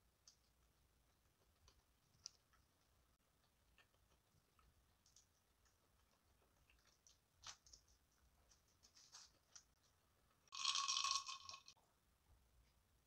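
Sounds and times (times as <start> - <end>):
faint clicks and ticks: 0.0 - 11.8.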